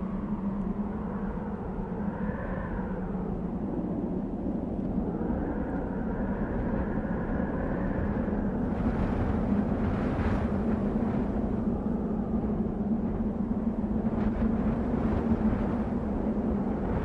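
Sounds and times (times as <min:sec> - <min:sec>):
wind blowing with low rumble: 0:00.0 - 0:17.0.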